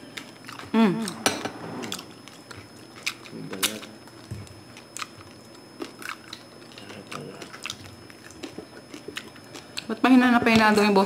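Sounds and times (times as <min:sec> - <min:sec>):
crunching and chewing crispy food: 0:00.0 - 0:01.2, 0:01.9 - 0:10.0.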